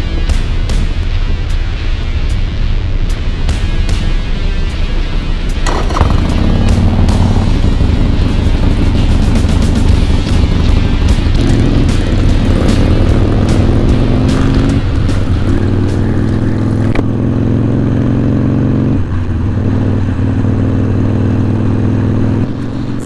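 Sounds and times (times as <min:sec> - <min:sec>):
background music: 0:00.0 - 0:23.0
motorcycle engine running: 0:03.2 - 0:23.0.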